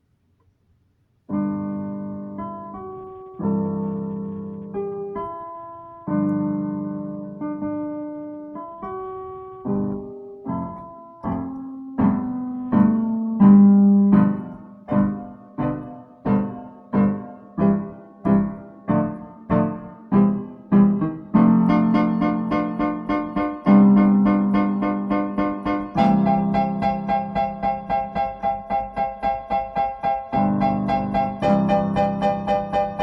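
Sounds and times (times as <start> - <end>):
piano playing: 1.3 - 33.0.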